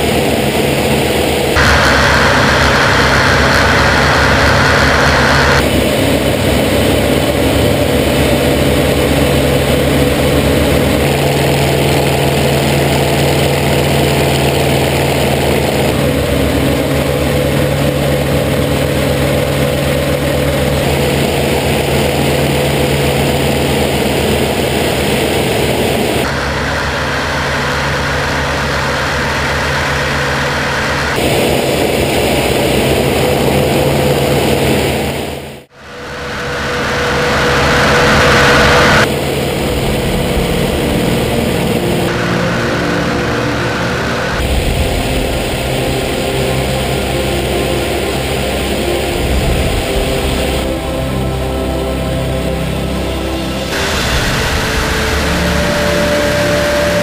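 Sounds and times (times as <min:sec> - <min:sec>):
aircraft engine drone in cockpit: 0:00.0 - 0:57.0.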